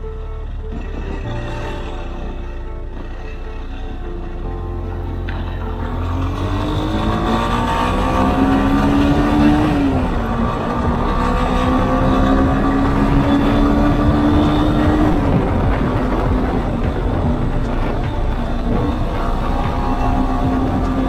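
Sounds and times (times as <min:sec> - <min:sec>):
low wind rumble: 0:00.0 - 0:21.0
motorcycle engine accelerating: 0:00.7 - 0:21.0.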